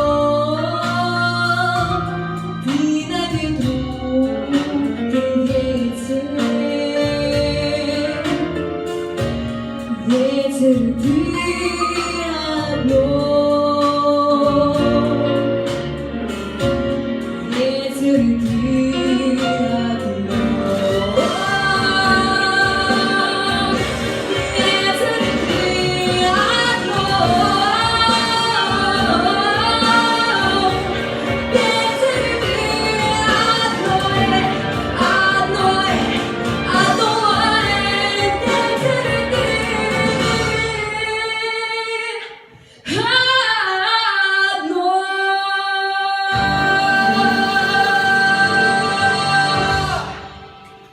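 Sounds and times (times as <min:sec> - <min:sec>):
musical accompaniment: 0:00.0 - 0:50.9
woman singing jazz: 0:00.0 - 0:50.9.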